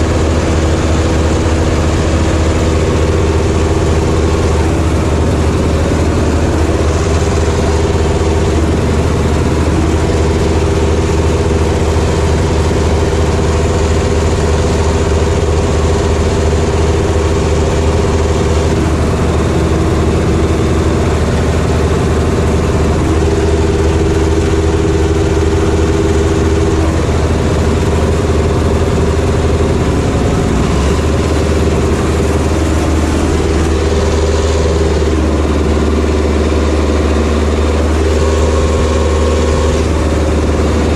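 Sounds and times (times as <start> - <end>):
second tractor diesel engine: 0.0 - 40.9
tractor diesel engine running: 0.0 - 40.9.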